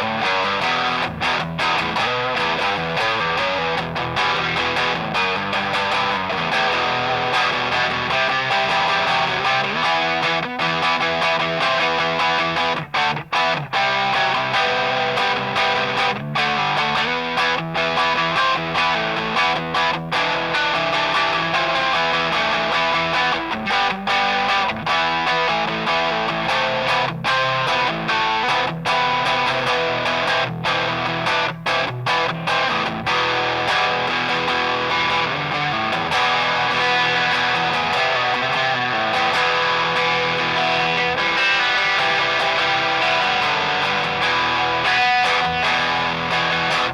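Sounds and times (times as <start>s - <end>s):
distorted electric guitar chords: 0.0s - 46.9s.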